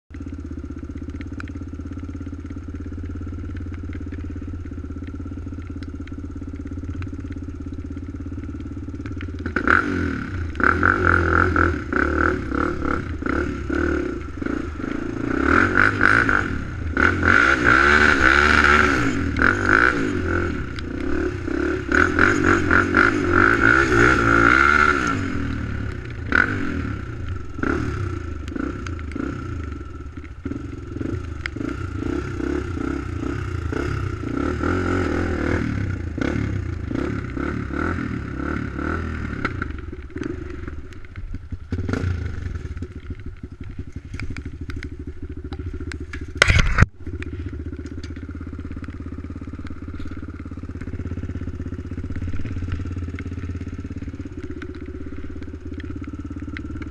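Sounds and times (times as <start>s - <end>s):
atv engine revving: 0.1s - 56.9s.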